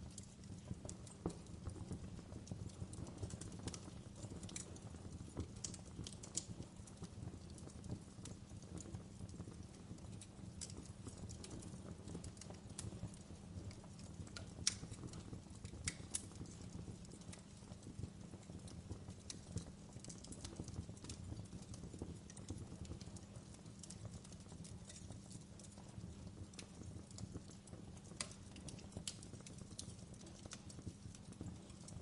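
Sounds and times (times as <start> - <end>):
low rumble of flames: 0.0 - 32.0
wood fire pops and snaps: 0.0 - 32.0.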